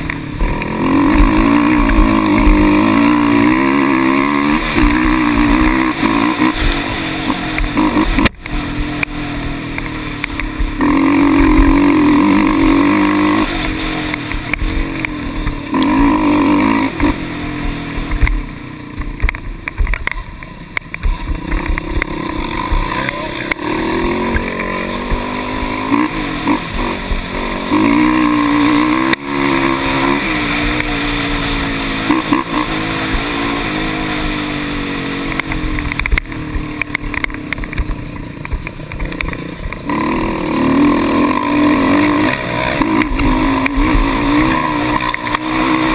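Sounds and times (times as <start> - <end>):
quad engine revving: 0.0 - 19.3, 21.1 - 45.9.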